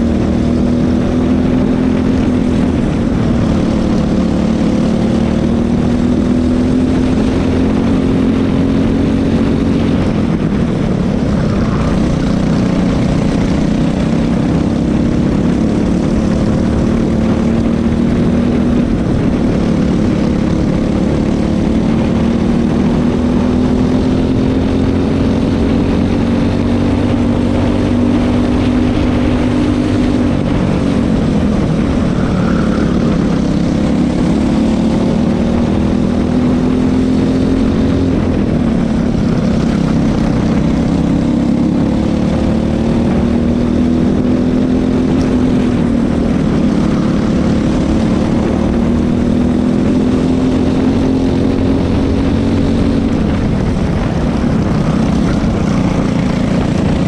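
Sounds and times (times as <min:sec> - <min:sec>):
kart engine at high revs: 0:00.0 - 0:57.0.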